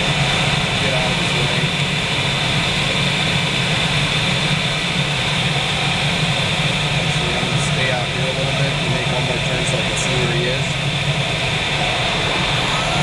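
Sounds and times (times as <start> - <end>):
rush of airflow around glider: 0.0 - 13.0.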